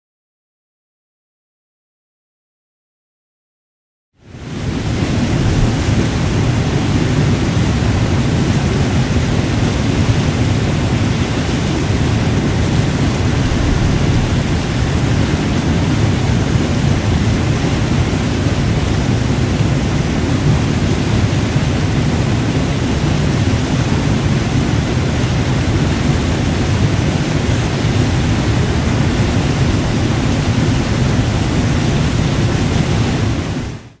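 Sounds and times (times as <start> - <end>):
waterfall rushing onto boulders: 4.2 - 34.0.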